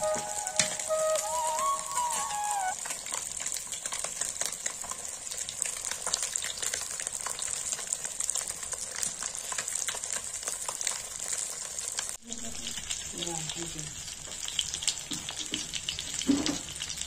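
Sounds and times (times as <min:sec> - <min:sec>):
fish frying in hot oil: 0:00.0 - 0:17.0
oil popping and crackling: 0:00.0 - 0:17.0.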